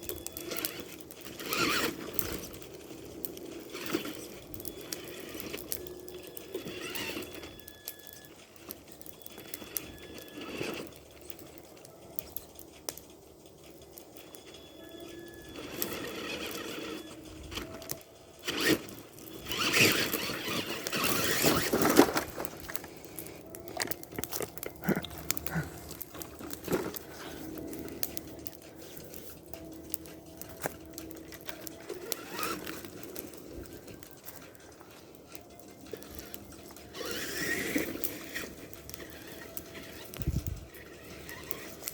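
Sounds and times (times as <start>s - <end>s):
small electric motors whining: 0.0s - 41.9s
tyres scraping and crunching: 0.0s - 41.9s.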